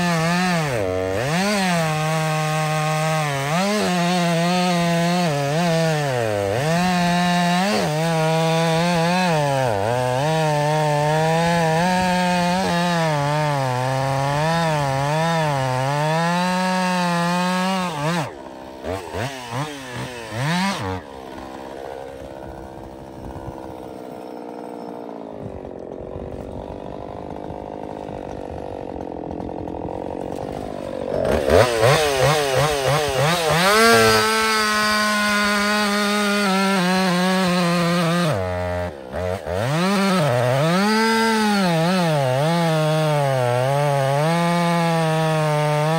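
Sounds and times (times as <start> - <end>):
chainsaw cutting wood: 0.0 - 45.9
chainsaw idling: 0.0 - 45.9.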